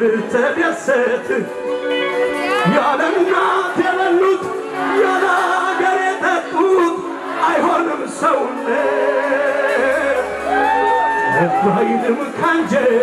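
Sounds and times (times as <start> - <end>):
amplified music: 0.0 - 13.0
man singing into microphone: 0.0 - 13.0.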